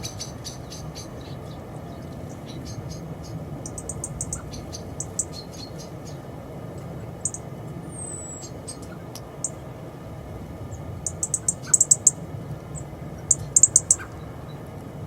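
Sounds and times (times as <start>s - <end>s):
small birds chirping: 0.0s - 9.6s, 10.6s - 14.8s
steady low rumble: 0.0s - 15.0s.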